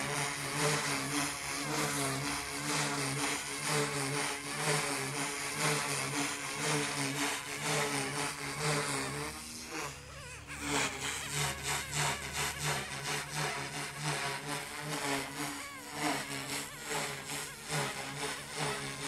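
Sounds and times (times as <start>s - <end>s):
rc helicopter rotor whir: 0.0s - 19.0s.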